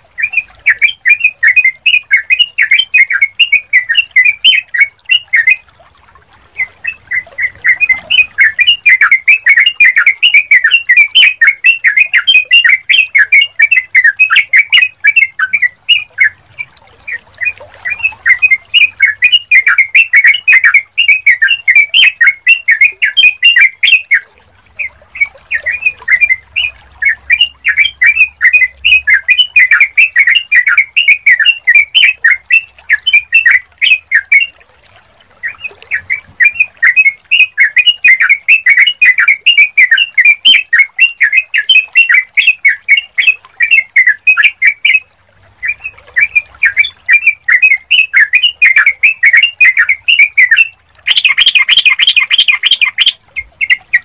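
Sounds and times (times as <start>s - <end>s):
bird singing bubbly chirps: 0.0s - 54.0s.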